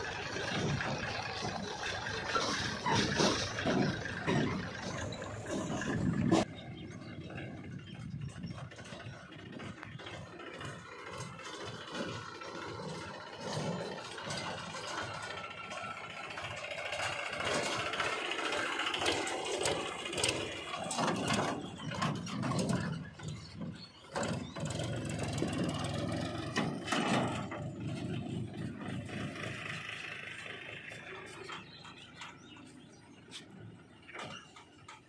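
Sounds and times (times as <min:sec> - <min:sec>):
tractor diesel engine running: 0:00.0 - 0:35.0
trailer knocks and rattles: 0:00.0 - 0:35.0.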